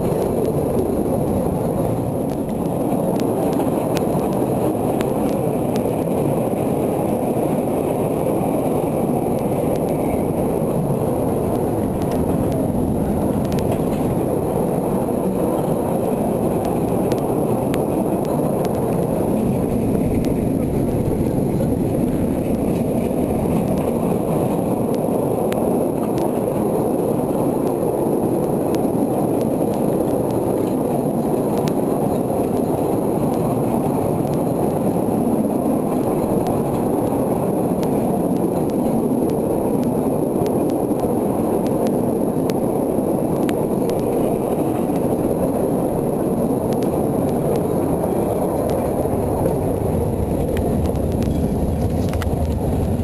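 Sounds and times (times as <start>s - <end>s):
train rumbling on track: 0.0s - 53.0s.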